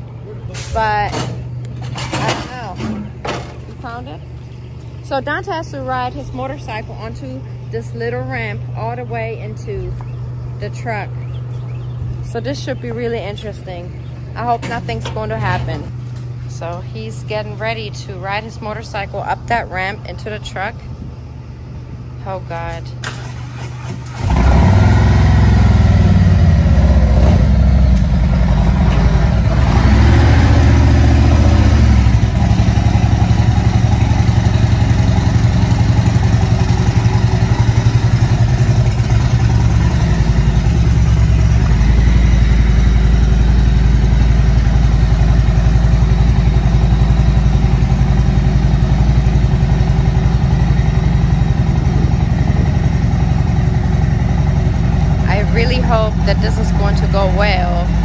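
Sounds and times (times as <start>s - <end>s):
motorcycle engine revving and idling: 0.0s - 58.0s.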